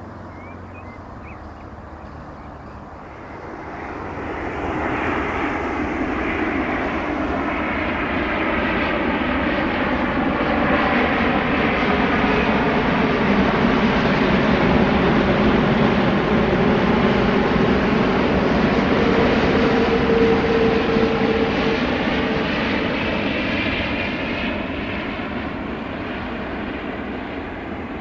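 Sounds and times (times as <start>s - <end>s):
engine hum: 0.0s - 28.0s
jet airliner passing overhead: 0.0s - 28.0s.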